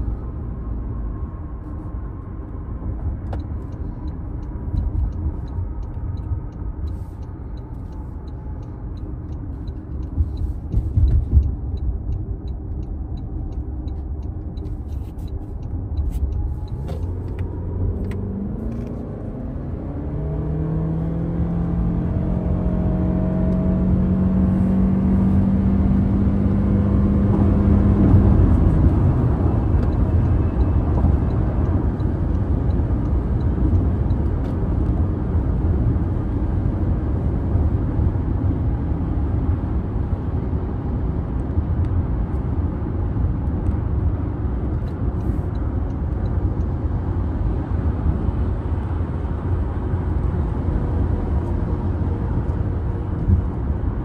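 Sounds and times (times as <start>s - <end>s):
car engine drone: 0.0s - 54.0s
road and tyre rumble: 0.0s - 54.0s.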